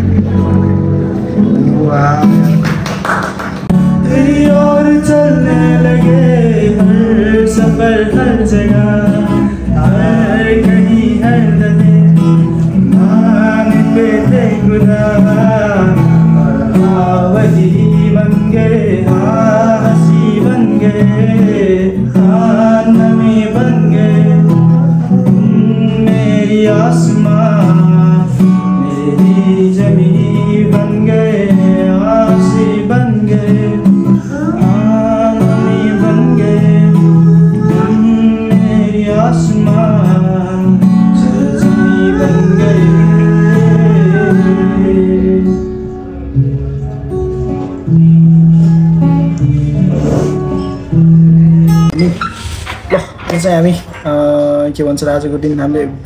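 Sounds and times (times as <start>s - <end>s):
acoustic guitar: 0.0s - 56.0s
man singing: 3.7s - 46.3s, 47.6s - 52.1s.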